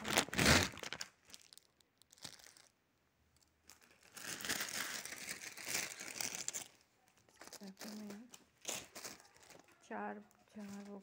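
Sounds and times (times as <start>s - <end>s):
plastic packaging crinkling: 0.0s - 2.8s, 3.4s - 11.0s.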